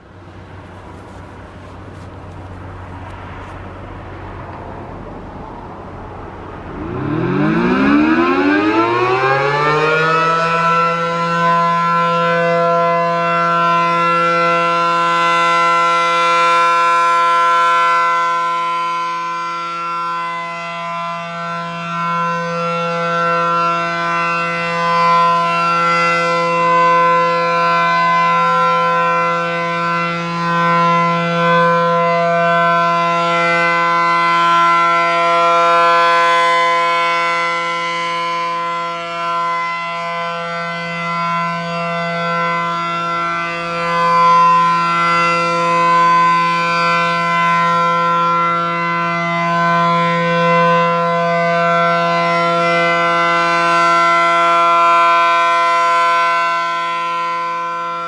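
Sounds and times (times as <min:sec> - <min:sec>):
warning siren steady tone: 0:00.0 - 0:04.5, 0:05.3 - 0:58.0.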